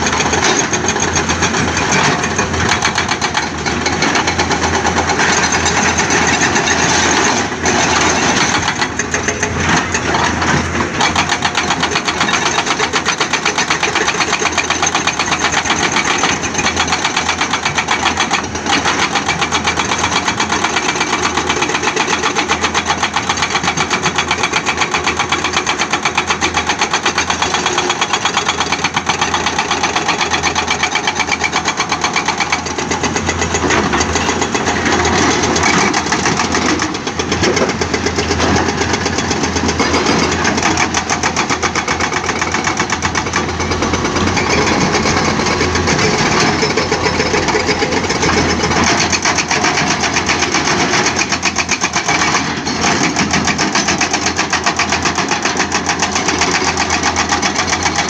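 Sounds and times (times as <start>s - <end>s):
diesel engines running: 0.0s - 58.0s
hydraulic breaker hammering rock: 0.0s - 58.0s.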